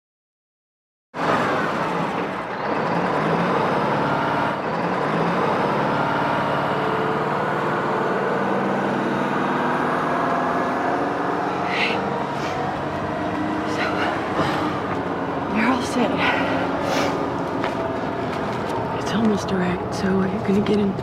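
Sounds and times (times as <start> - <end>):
bus engine: 1.2 - 21.0
road traffic engines: 1.2 - 21.0.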